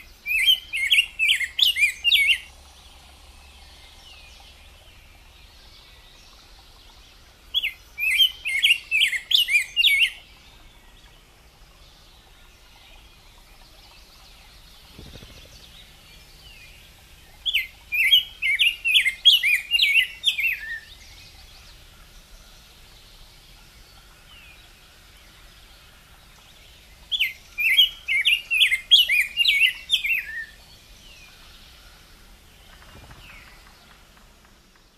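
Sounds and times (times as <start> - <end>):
bird singing warbled phrases: 0.0 - 34.1.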